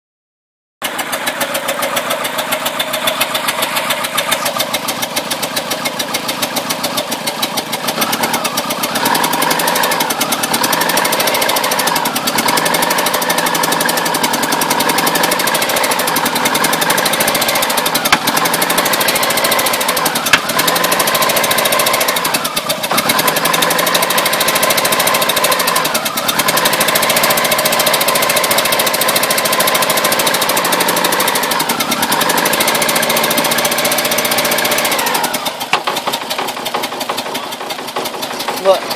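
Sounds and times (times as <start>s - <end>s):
car engine popping: 0.8s - 38.9s.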